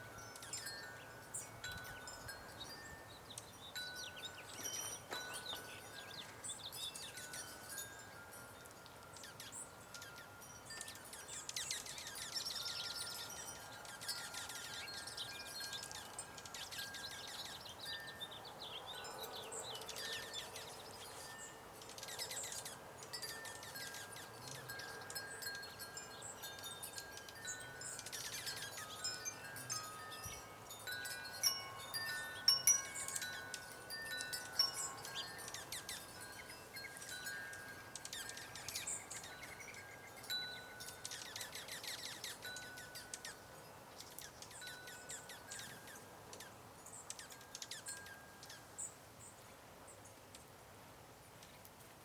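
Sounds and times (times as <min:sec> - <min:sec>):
wind chimes ringing softly: 0:00.0 - 0:50.4
small birds chirping: 0:00.0 - 0:50.6.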